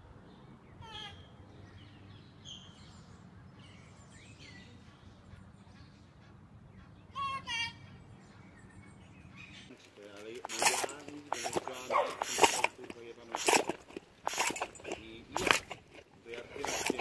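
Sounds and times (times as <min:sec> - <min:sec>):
birds chirping faintly: 0:00.0 - 0:17.0.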